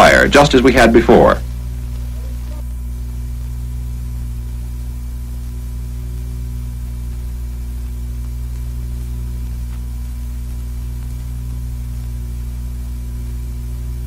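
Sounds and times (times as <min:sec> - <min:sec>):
faint hiss: 0:00.0 - 0:14.0
mains hum: 0:00.0 - 0:14.0.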